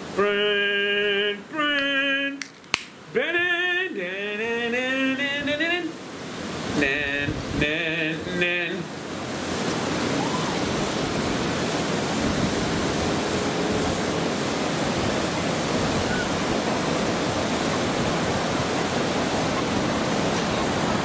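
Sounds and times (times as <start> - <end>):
ocean surf: 0.0 - 21.0
wind: 0.0 - 21.0.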